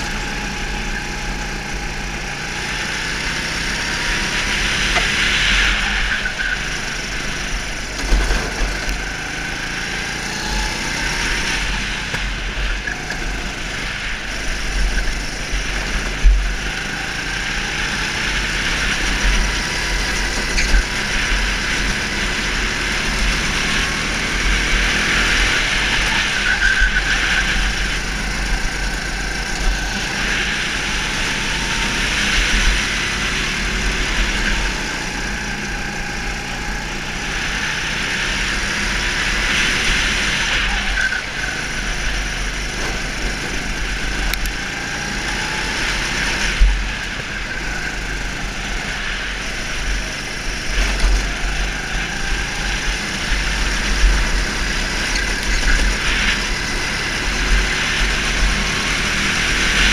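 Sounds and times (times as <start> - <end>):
go-kart engine accelerating: 0.0 - 59.9.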